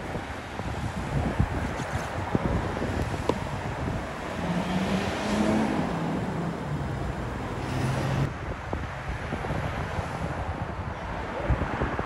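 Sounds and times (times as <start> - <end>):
cars passing: 0.0 - 12.0
wind buffeting microphone: 0.0 - 12.0.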